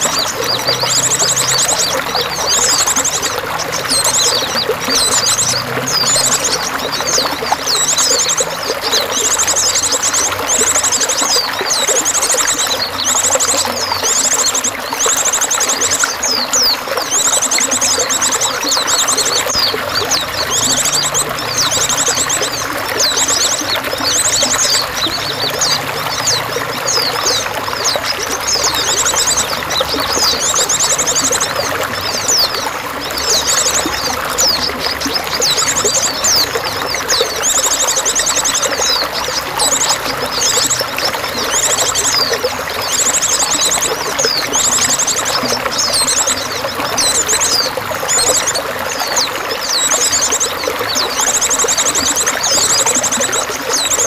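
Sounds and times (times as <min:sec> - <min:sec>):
songbirds singing: 0:00.0 - 0:54.0
trickling water: 0:00.0 - 0:54.0.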